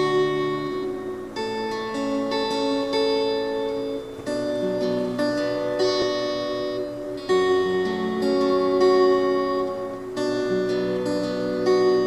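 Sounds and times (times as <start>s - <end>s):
plucked-string instrumental music: 0.0s - 12.0s.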